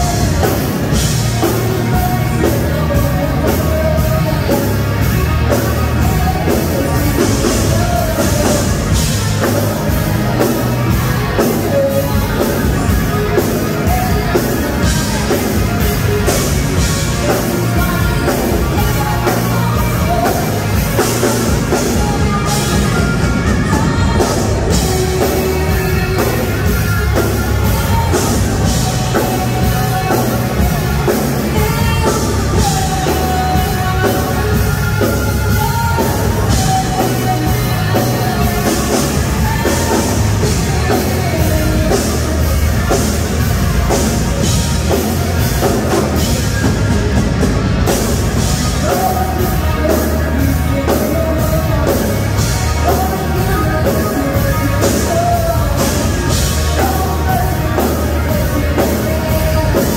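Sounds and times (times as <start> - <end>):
woman singing: 0.0 - 46.7, 47.9 - 59.9
rock band playing: 0.0 - 59.9.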